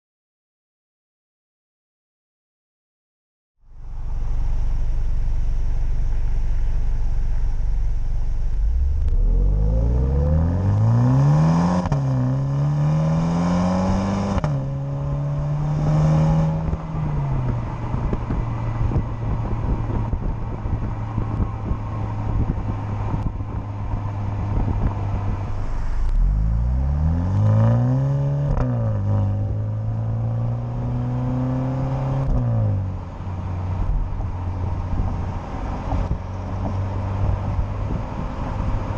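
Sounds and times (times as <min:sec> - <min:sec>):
car engine accelerating: 0:03.6 - 0:38.9.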